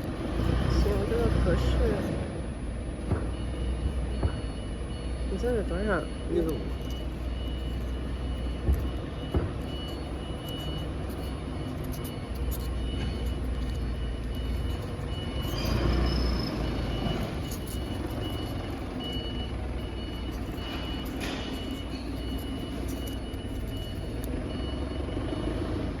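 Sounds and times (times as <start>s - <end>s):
high-pitched beep: 0.7s - 25.8s.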